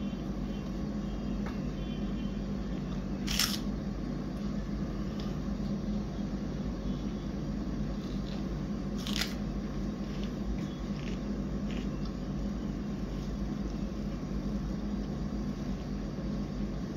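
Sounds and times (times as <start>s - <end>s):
low machine hum: 0.0s - 16.9s.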